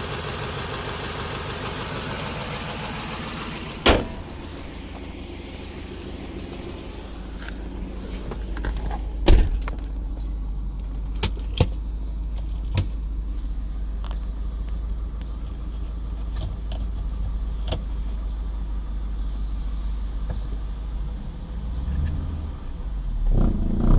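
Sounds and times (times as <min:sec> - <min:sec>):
car engine idling roughly: 0:00.0 - 0:23.9.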